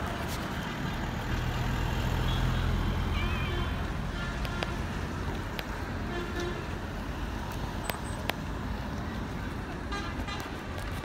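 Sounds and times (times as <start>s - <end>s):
fire truck engines rumbling: 0.0s - 11.0s.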